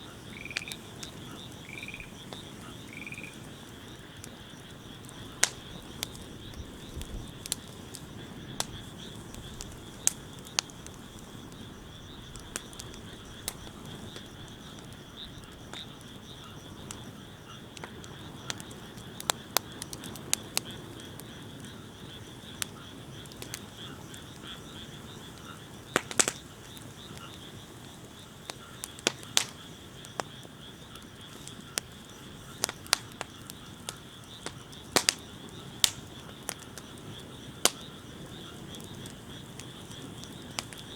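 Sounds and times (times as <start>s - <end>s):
low steady rush of fire: 0.0s - 40.9s
wood fire crackling and popping: 0.0s - 40.9s.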